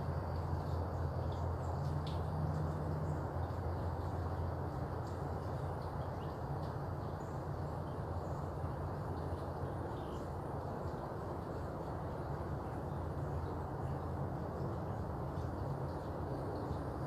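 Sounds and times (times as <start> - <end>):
distant freeway traffic rumble: 0.0 - 17.0.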